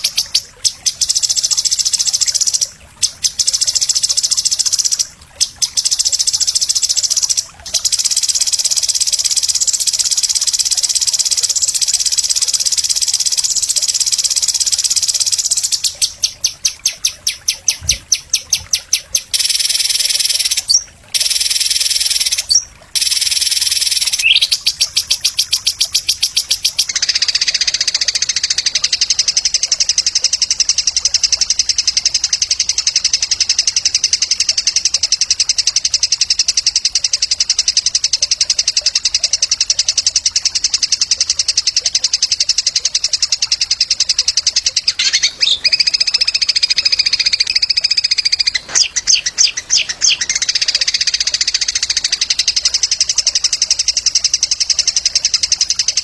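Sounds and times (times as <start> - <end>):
songbird high-pitched trill: 0.0 - 56.0.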